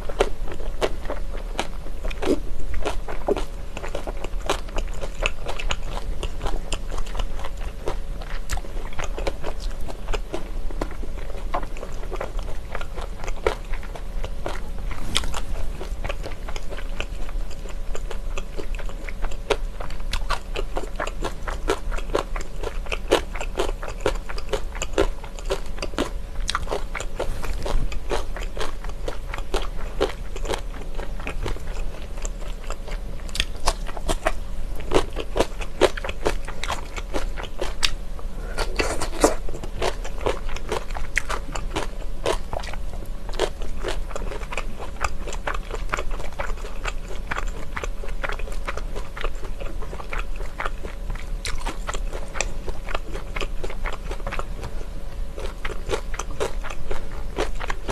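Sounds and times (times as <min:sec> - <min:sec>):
person chewing crunchy food: 0:00.0 - 0:57.9.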